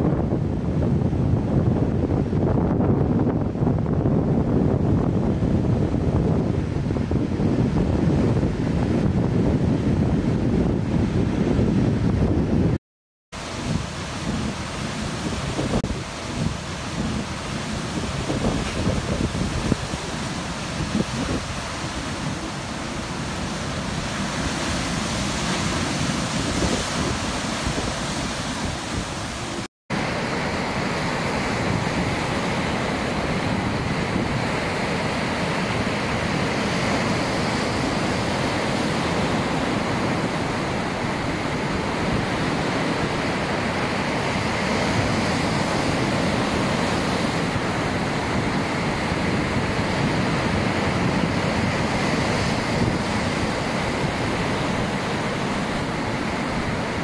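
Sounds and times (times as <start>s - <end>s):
ocean waves breaking: 3.7s - 57.0s.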